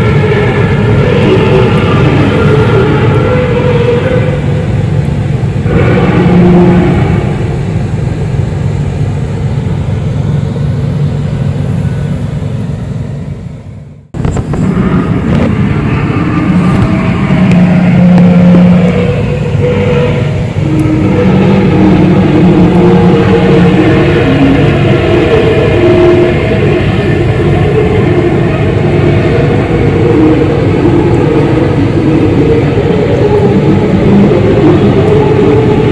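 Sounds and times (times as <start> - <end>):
humming tones shifting in pitch: 0.0 - 35.9
low rumbling drone: 0.0 - 35.9.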